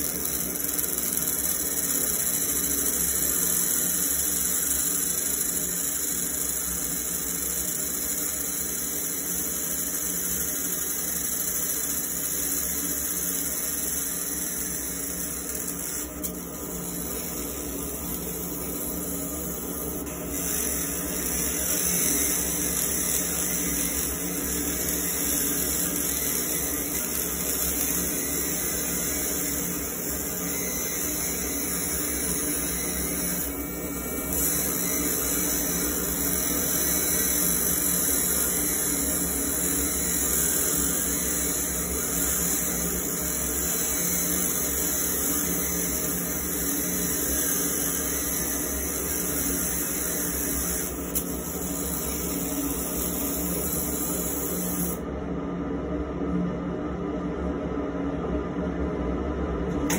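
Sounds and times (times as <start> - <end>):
laser engraving machine whirring: 0.0 - 55.1
fume extractor blower: 0.0 - 59.9.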